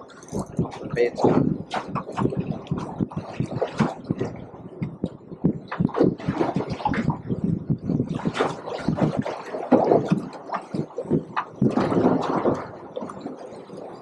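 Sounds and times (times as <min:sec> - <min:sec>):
wind buffeting microphone: 0:00.0 - 0:14.0
water slapping against boat hull: 0:00.1 - 0:14.0.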